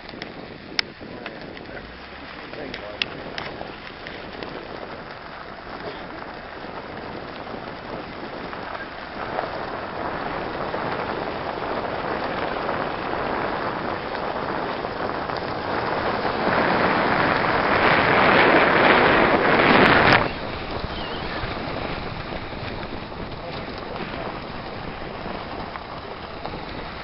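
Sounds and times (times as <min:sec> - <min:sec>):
tyre and wind road noise: 0:00.0 - 0:27.0.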